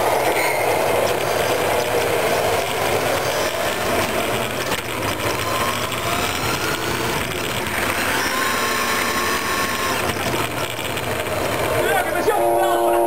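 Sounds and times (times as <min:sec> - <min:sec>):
small tyres hissing on asphalt: 0:00.1 - 0:12.0
model truck motor whining: 0:01.0 - 0:11.9.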